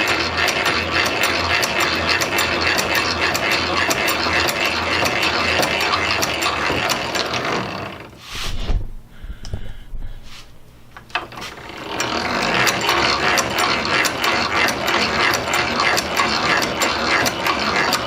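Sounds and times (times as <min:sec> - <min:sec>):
hand drill ratchet clicking: 0:00.0 - 0:08.1, 0:11.1 - 0:18.0.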